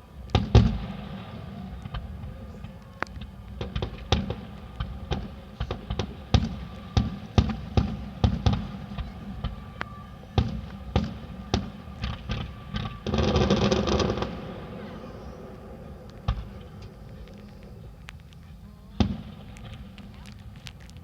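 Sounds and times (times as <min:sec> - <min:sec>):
fireworks bangs and crackles: 0:00.0 - 0:21.0
distant booming: 0:00.4 - 0:18.0.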